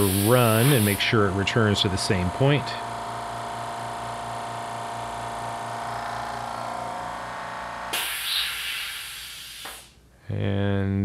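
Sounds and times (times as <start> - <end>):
air compressor running: 0.0 - 10.0.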